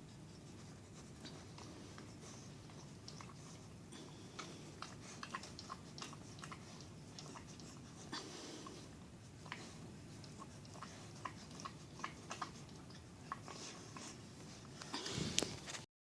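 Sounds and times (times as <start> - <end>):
dog licking: 1.3 - 14.8.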